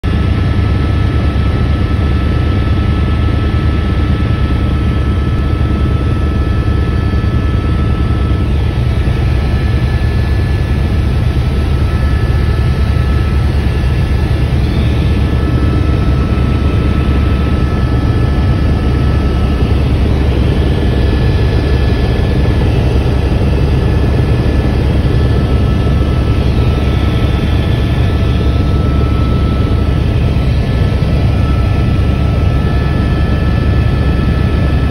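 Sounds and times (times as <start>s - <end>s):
helicopter engine and rotors: 0.0s - 34.9s
thin steady whines: 0.1s - 34.9s.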